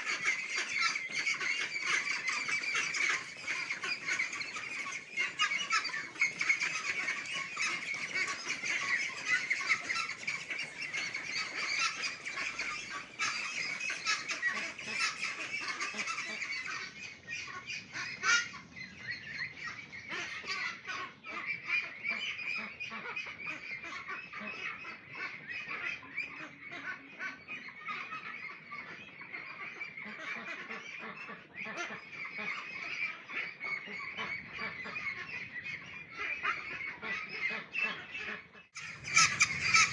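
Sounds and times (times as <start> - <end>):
flock of ducks calling: 0.0 - 39.9.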